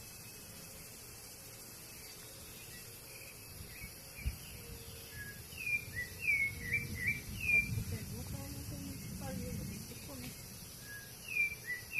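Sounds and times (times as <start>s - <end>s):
birds chirping: 0.0s - 11.9s
high hum of insects: 0.0s - 11.9s.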